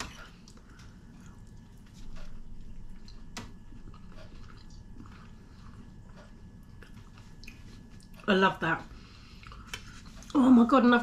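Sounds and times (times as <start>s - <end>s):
person chewing food: 0.0s - 8.3s, 9.2s - 10.4s.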